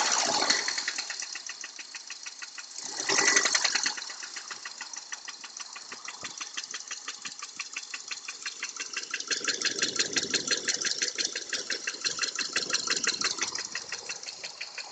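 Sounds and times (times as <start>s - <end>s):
car engine knocking: 0.0s - 14.9s.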